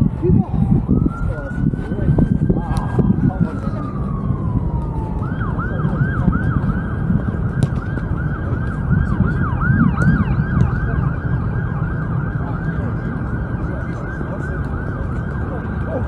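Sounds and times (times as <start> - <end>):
siren yelping: 0.0 - 16.0.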